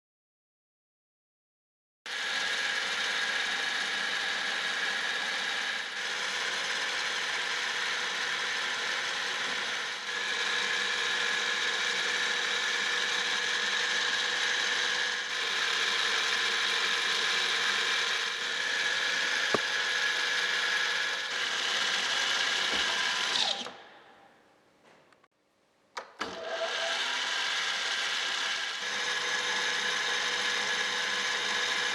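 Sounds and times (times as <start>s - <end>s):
milling machine whine: 2.4s - 23.7s, 26.6s - 31.9s.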